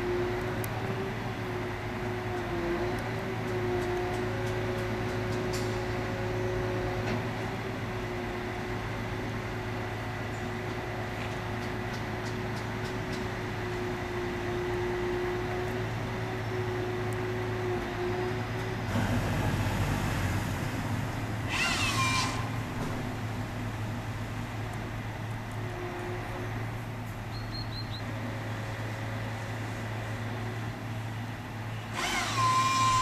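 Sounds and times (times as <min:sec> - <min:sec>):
crane engine and hydraulics humming: 0:00.0 - 0:33.0.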